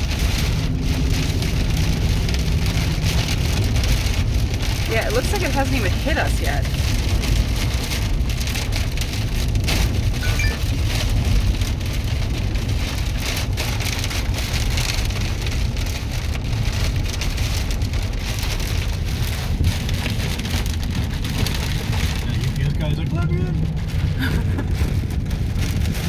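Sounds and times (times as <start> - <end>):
heavy rain on vehicle: 0.0 - 26.0
wind rumble: 0.0 - 26.0.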